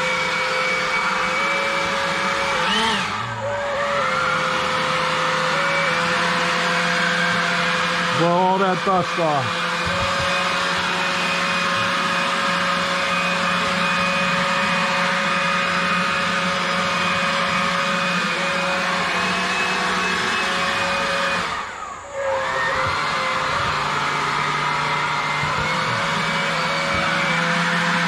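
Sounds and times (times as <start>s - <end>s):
leaf blower running: 0.0s - 28.0s.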